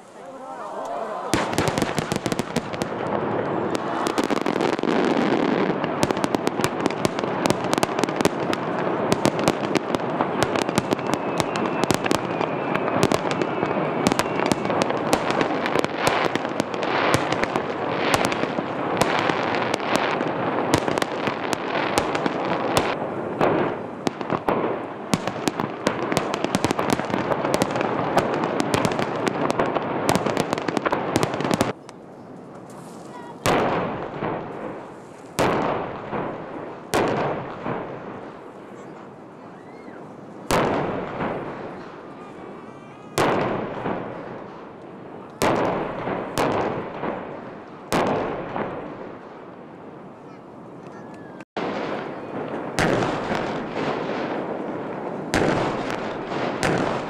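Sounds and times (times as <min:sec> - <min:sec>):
fireworks bangs and cracks: 0:01.3 - 0:57.0.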